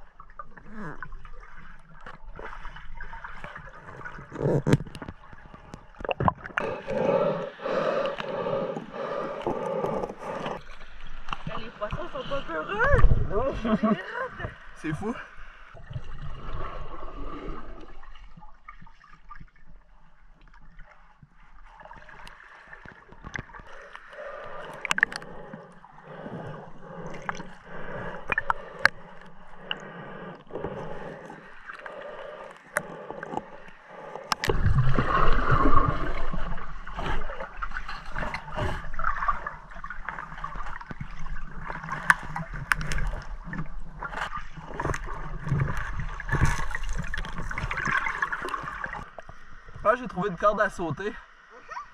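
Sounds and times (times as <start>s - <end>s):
water gurgling and sloshing: 0.0s - 51.9s.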